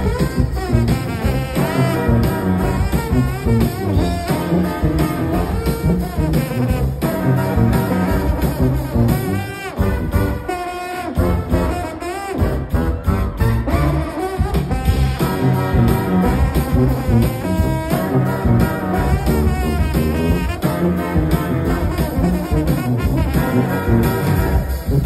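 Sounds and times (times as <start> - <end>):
brass band playing: 0.0 - 25.0
steady drum beat: 0.0 - 25.0.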